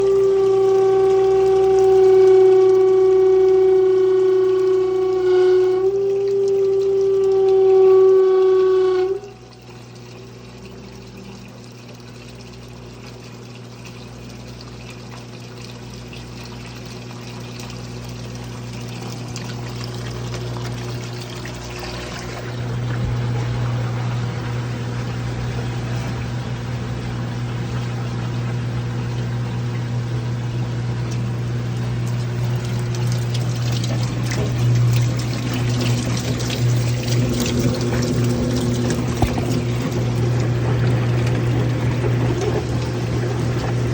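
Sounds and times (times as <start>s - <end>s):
washing machine hum: 0.0s - 43.9s
water pouring and splashing: 0.0s - 43.9s.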